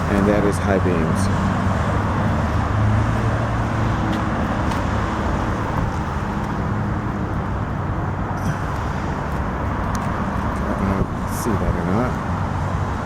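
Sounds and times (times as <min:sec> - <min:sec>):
car engine idling: 0:00.0 - 0:13.0
outdoor noise: 0:00.0 - 0:13.0.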